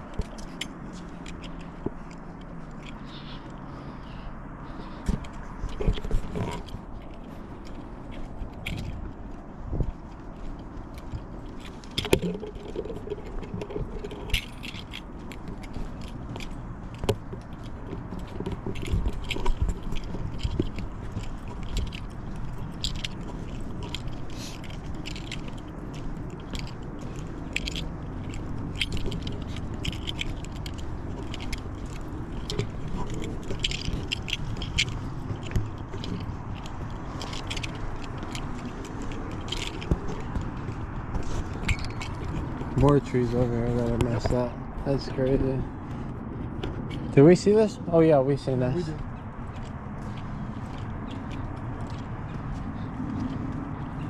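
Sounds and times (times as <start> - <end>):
footsteps scraping and crackling: 0.0 - 54.0
small items jostling: 5.6 - 54.0.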